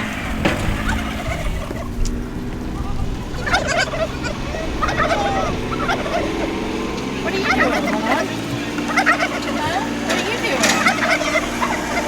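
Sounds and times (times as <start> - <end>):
engine running steadily: 0.0 - 12.0
fowl warbling call: 0.0 - 12.0.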